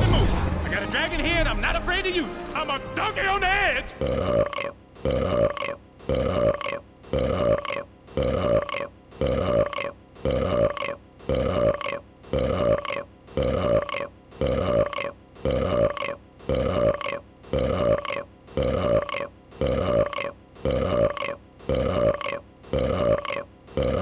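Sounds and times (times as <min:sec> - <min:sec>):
looped monster belch: 0:04.0 - 0:24.0.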